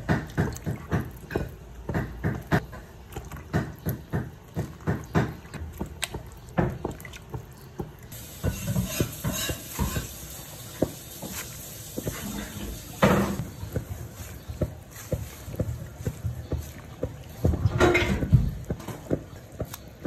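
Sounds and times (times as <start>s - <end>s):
water sloshing in basin: 0.0s - 20.0s.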